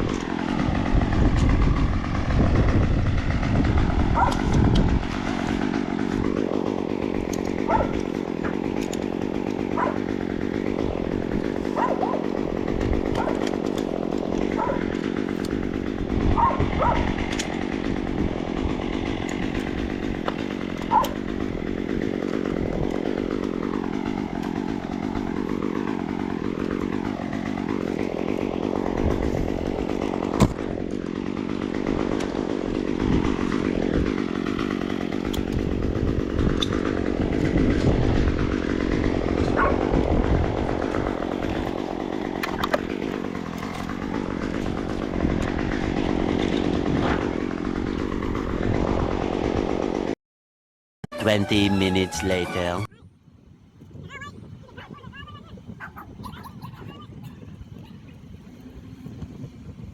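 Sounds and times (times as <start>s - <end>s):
chainsaw running: 0.0s - 50.2s, 51.1s - 52.9s, 53.9s - 59.9s.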